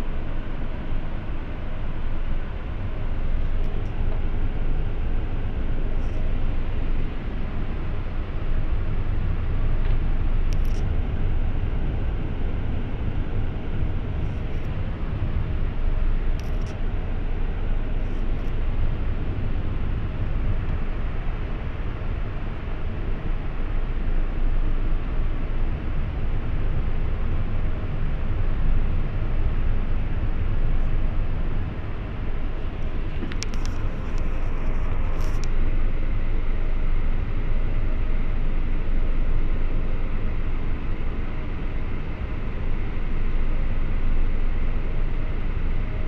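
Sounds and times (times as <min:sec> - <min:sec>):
jet engine rumble: 0:00.0 - 0:46.0.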